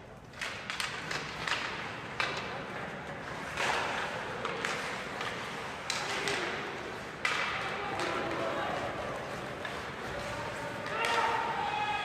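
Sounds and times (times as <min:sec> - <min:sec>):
hockey sticks and puck clacking: 0:00.0 - 0:12.0
rink background noise: 0:00.0 - 0:12.0
skate blades scraping ice: 0:00.3 - 0:12.0.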